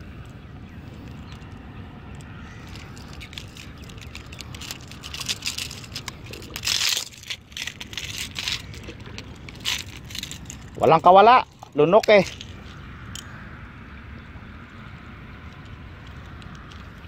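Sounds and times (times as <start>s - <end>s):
crackling handling noise: 0.0s - 13.4s, 15.4s - 17.0s
low steady rumble: 0.0s - 17.0s.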